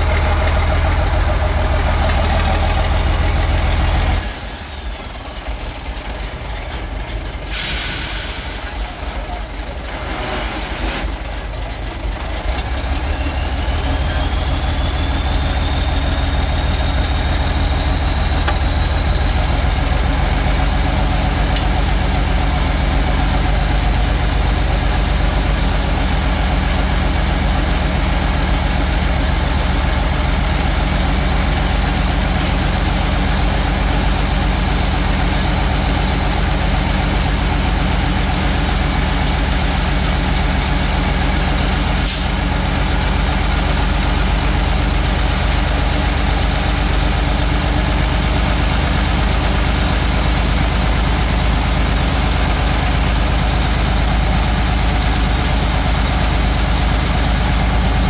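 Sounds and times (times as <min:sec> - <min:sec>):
diesel engine rumble: 0:00.0 - 0:58.0.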